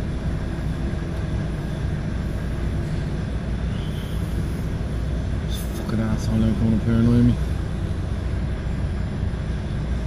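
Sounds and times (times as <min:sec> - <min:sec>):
diesel engine low rumble: 0:00.0 - 0:10.0.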